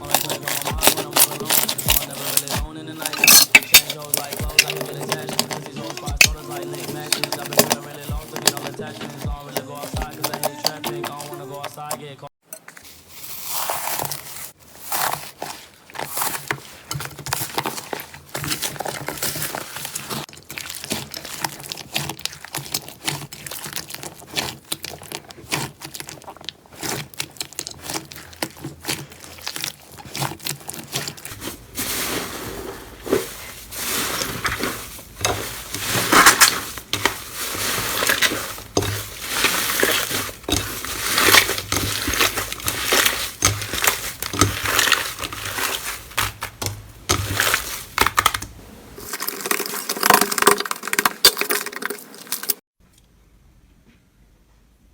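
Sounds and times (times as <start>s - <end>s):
slime crackling and crunching: 0.0s - 52.6s.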